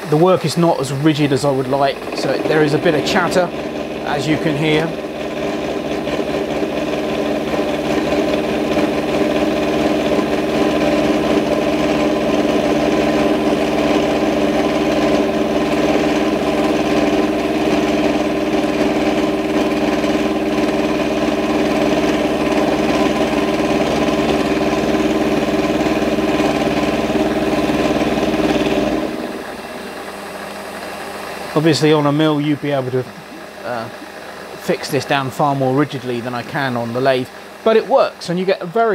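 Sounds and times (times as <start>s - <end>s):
lathe milling with chatter: 0.0s - 38.9s.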